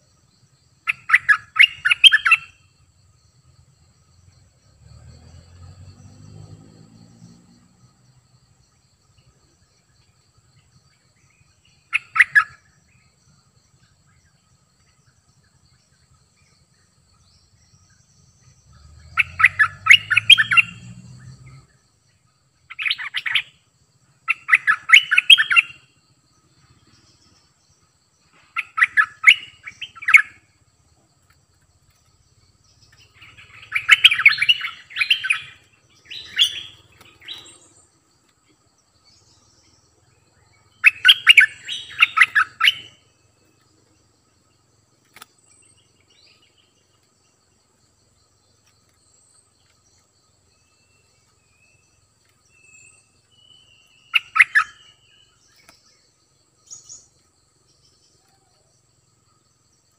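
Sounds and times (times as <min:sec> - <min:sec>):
bulbul singing: 0:00.4 - 0:02.8, 0:10.6 - 0:30.6, 0:31.9 - 0:58.8.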